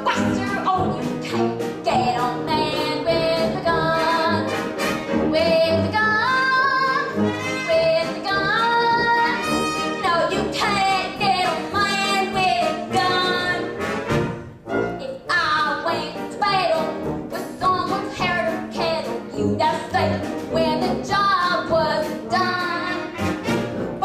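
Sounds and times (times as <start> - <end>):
woman singing: 0.0 - 4.5, 5.3 - 13.8, 15.0 - 23.2
pit band playing: 0.0 - 24.0.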